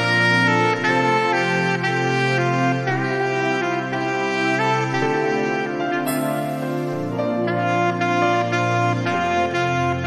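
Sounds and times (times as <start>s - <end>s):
alto saxophone slow melody: 0.0s - 10.0s
sustained keyboard accompaniment: 0.0s - 10.0s.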